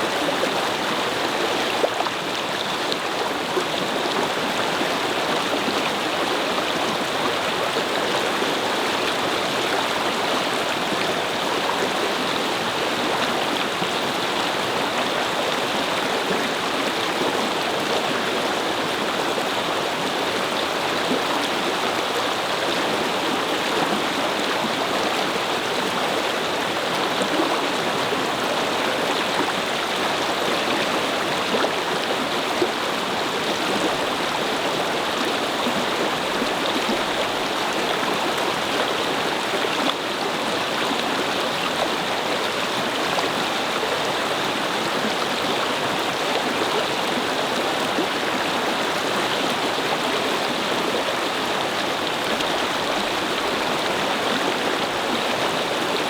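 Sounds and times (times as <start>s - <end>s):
brook water flowing over stones: 0.0s - 56.0s.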